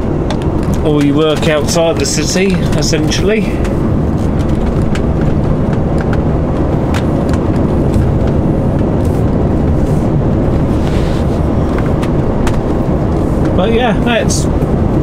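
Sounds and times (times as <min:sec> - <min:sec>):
lorry engine and tyre rumble: 0:00.0 - 0:15.0.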